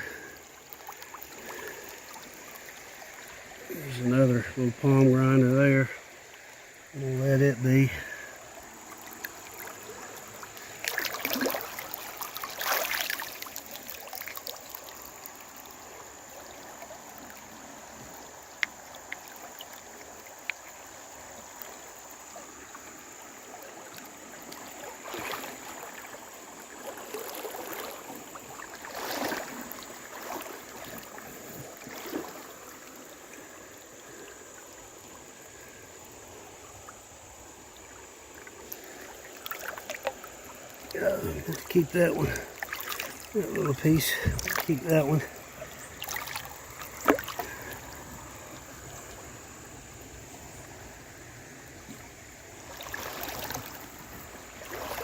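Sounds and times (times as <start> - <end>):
person wading through water: 0.0 - 4.8, 5.9 - 55.0
creek water rushing: 0.0 - 55.0.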